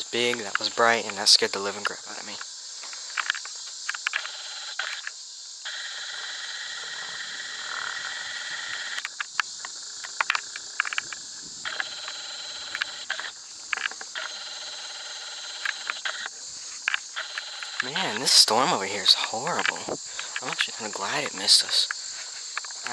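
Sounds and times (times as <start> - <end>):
sharp clicks: 0.0 - 6.0, 7.6 - 22.9
crickets and insects trilling: 0.0 - 22.9.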